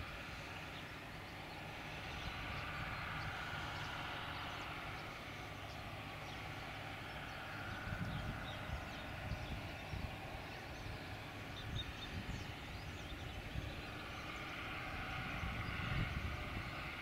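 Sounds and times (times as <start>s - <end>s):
distant tractor diesel engine: 0.0s - 17.0s.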